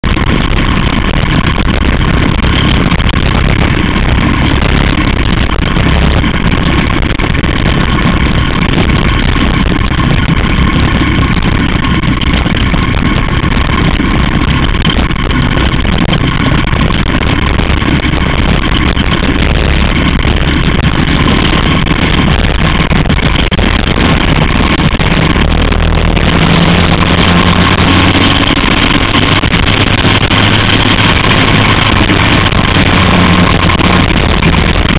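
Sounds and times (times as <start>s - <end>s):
kart engine running at speed: 0.0s - 34.9s.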